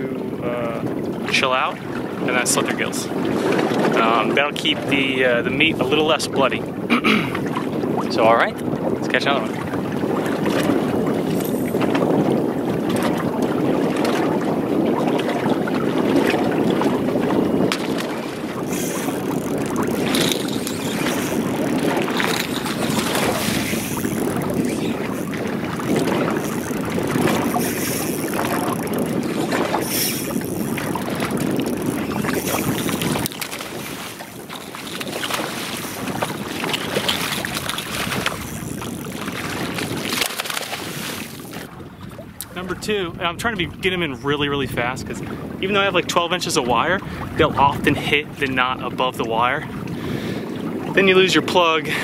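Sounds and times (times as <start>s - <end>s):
water noise: 0.0s - 52.0s
wind: 0.0s - 52.0s.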